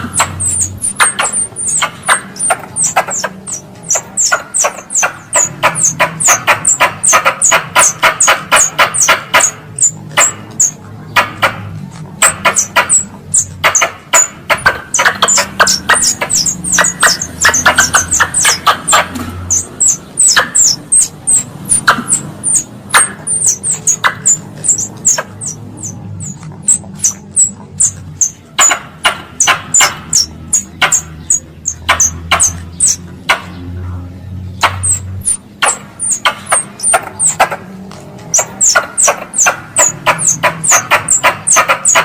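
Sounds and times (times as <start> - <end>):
sharp clicks: 0.0 - 33.6, 34.6 - 42.0
squirrel chattering: 0.0 - 33.8, 34.5 - 42.0.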